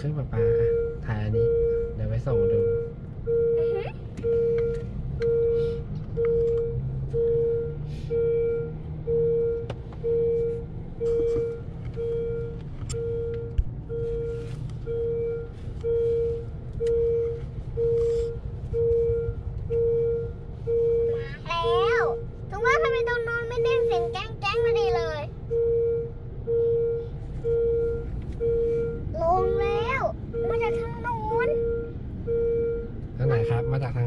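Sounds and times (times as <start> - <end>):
engine and traffic rumble: 0.0 - 34.0
level crossing warning tone: 0.0 - 34.0.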